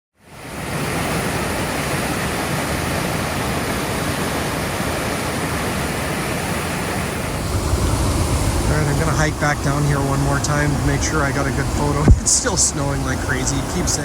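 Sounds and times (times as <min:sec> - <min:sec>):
waterfall rushing: 0:00.3 - 0:14.0.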